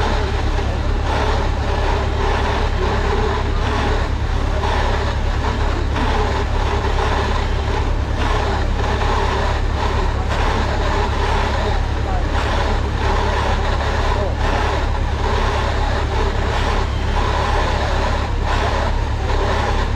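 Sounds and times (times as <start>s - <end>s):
tractor engine droning: 0.0s - 19.9s.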